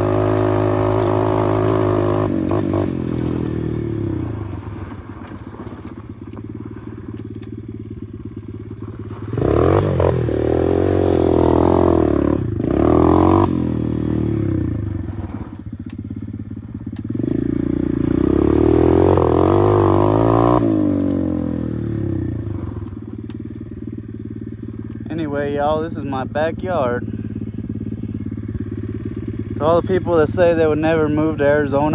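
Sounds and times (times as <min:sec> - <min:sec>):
pit bike engine revving: 0:00.0 - 0:31.9.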